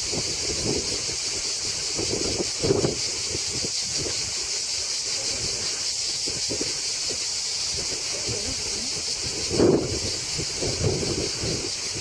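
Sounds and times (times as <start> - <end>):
cicadas buzzing: 0.0 - 12.0
wind rumble on microphone: 0.0 - 12.0.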